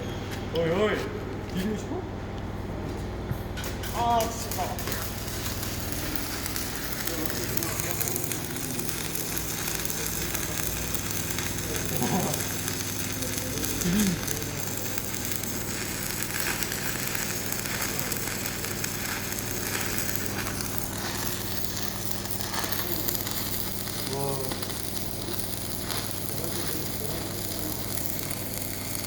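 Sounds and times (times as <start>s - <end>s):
steady low hum: 0.0s - 29.0s
welding arc crackling: 3.6s - 29.0s.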